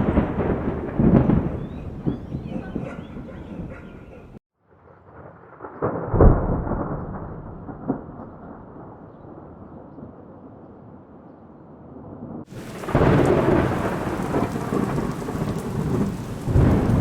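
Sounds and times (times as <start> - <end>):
thunderclap with rolling rumble: 0.0 - 4.4, 5.1 - 10.4, 12.0 - 17.0.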